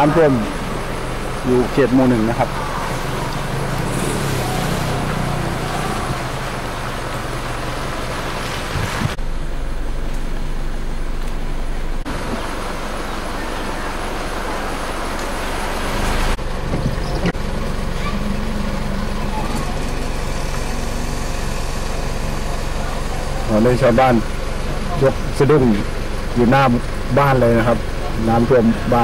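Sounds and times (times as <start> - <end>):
car engine hum: 0.0 - 29.0
road noise hiss: 0.0 - 29.0.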